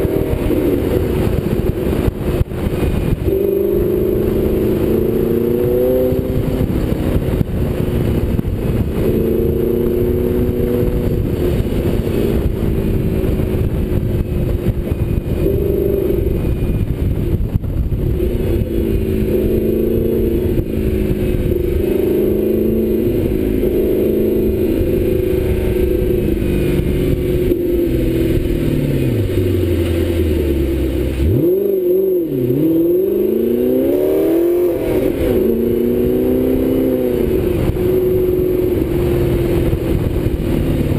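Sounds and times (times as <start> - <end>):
car engine cruising: 0.0 - 40.9
wind rumbling on microphone: 0.0 - 40.9.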